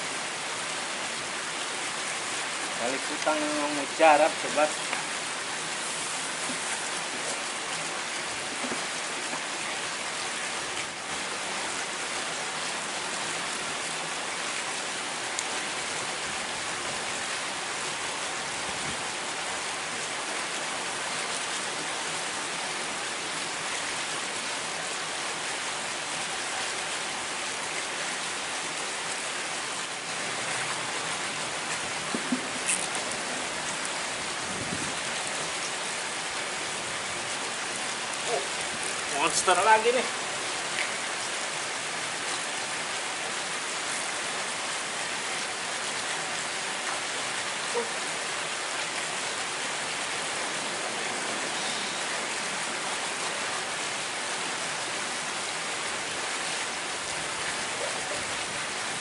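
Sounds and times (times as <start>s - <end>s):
steady water hiss: 0.0s - 59.0s.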